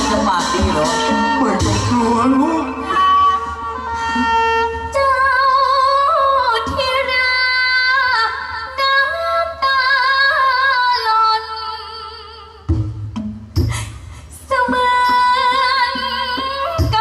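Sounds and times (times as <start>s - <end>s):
woman singing with vibrato: 0.0s - 12.7s, 13.7s - 17.0s.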